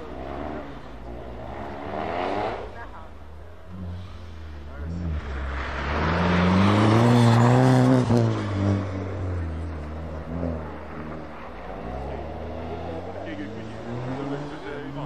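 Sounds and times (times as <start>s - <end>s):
racing car engine passing by: 0.0s - 15.0s.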